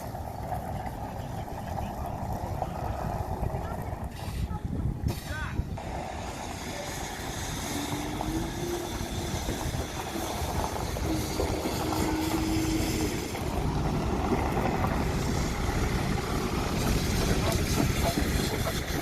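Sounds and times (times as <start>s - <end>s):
train rumble and hiss: 0.0s - 19.0s.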